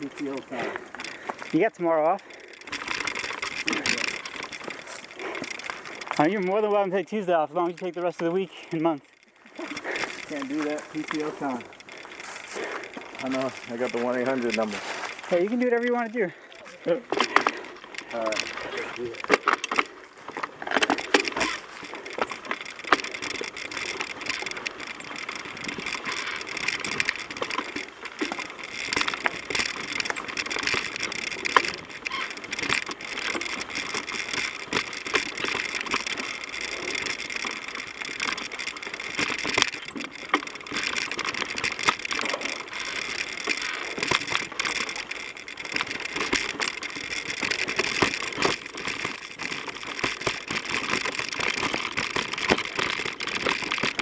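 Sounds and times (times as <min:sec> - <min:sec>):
bike rattling and knocking: 0:00.0 - 0:54.0
bike tyres on dirt trail: 0:00.0 - 0:54.0.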